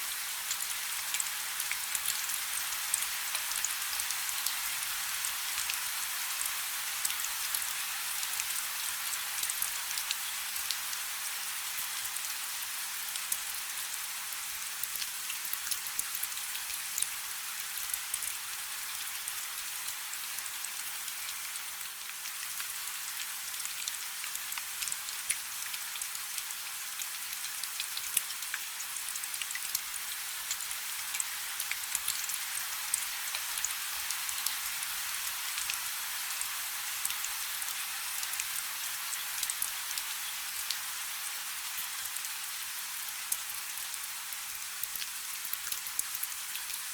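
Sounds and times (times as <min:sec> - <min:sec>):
light rain falling: 0:00.0 - 0:46.9.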